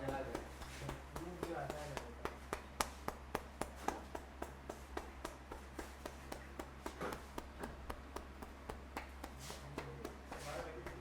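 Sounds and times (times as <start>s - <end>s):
rhythmic hand taps on head: 0.0s - 11.0s
steady low hum: 0.0s - 11.0s.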